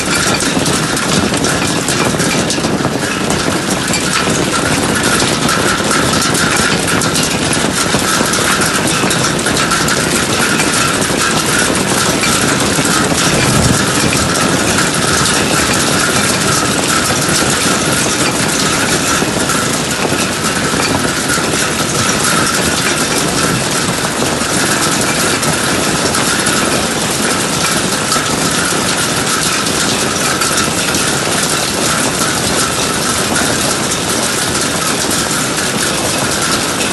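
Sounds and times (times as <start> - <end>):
hail pelting down: 0.0 - 36.9.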